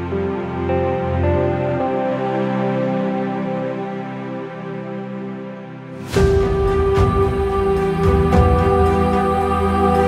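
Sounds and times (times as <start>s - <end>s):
soft sustained chords: 0.0s - 10.0s.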